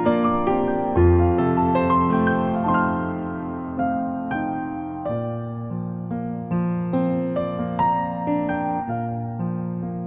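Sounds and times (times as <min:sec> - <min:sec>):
keyboard playing gentle melody: 0:00.0 - 0:10.0.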